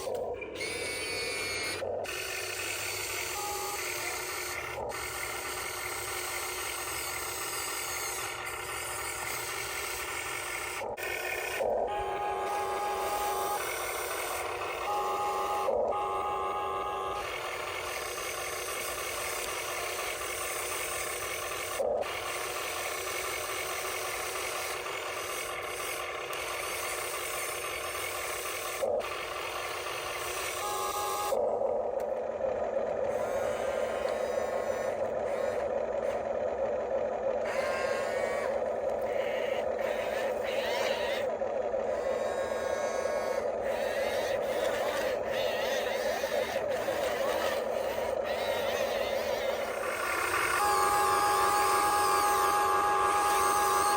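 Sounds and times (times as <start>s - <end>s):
electric gear motors whirring: 0.0s - 53.9s
higher motor whine: 0.0s - 53.9s.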